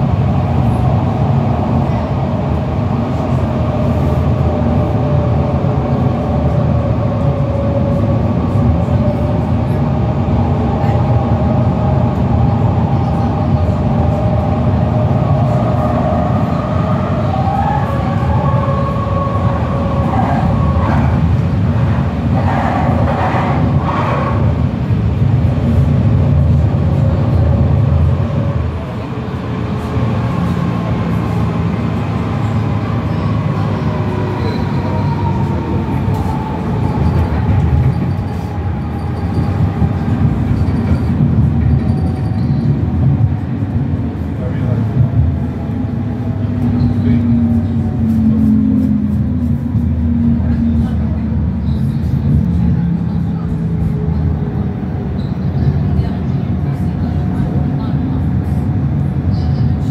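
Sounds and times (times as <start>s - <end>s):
tram wheels rumbling on rail: 0.0s - 59.9s.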